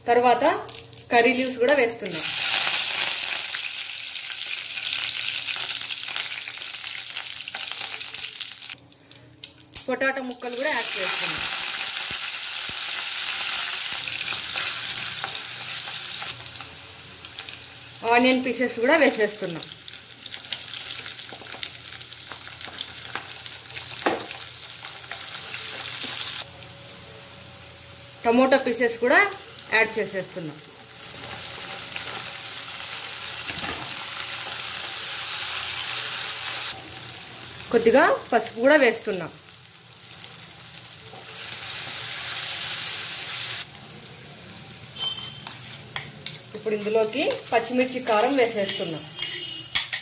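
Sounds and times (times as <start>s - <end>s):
food sizzling in hot oil: 2.0s - 8.8s, 10.4s - 26.5s, 27.3s - 49.6s.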